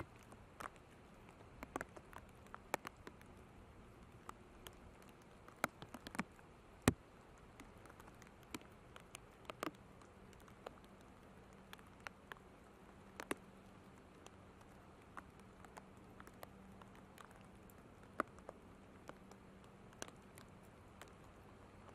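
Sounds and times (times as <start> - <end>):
faint low hum: 0.0 - 21.9
low hiss: 0.0 - 21.9
raindrops ticking on microphone: 0.0 - 21.9.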